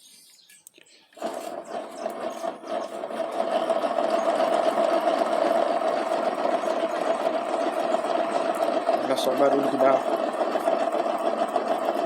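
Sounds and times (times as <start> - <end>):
engine crankshaft rattly grinding: 1.2 - 12.0.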